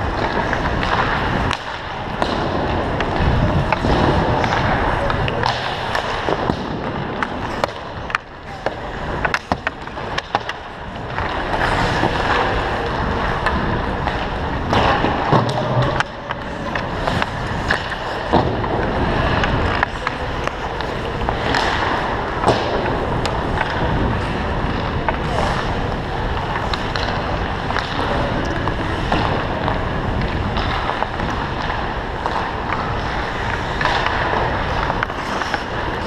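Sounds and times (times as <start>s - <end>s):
hockey sticks striking pucks: 0.0s - 36.0s
skate blades scraping ice: 0.0s - 36.0s.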